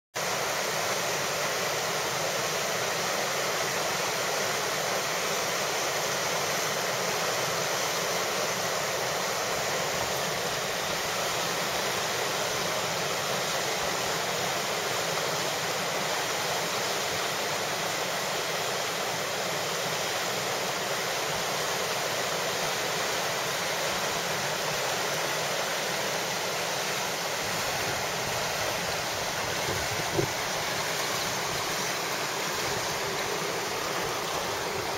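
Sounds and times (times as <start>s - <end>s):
river rapids rushing: 0.2s - 34.9s.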